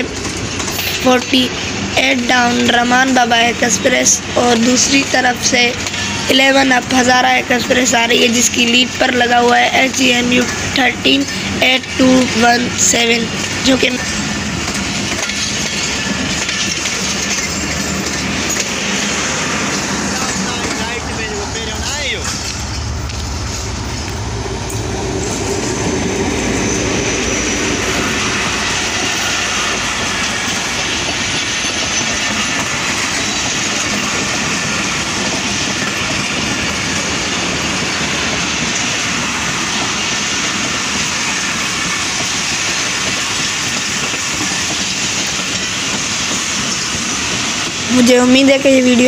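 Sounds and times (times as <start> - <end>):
locomotive engine rumble: 0.0 - 49.0
wheel clatter on rails: 0.0 - 49.0.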